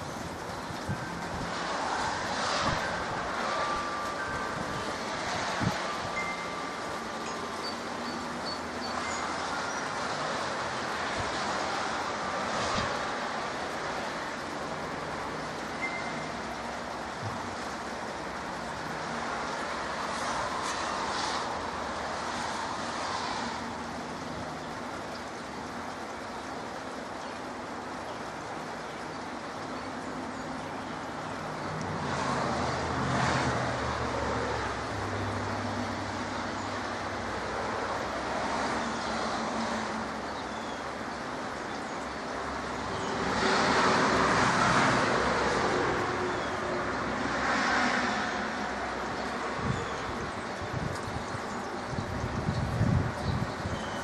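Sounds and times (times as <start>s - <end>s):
car tyres hissing on wet road: 0.0s - 25.0s, 29.6s - 40.3s, 42.4s - 51.6s
steady rain: 0.0s - 54.0s.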